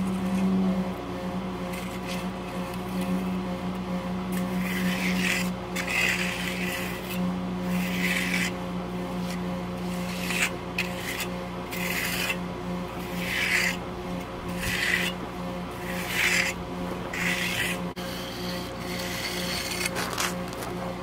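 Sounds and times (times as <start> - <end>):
steady low hum: 0.0 - 21.0
trowel rasping across concrete: 1.7 - 3.4, 4.3 - 20.8.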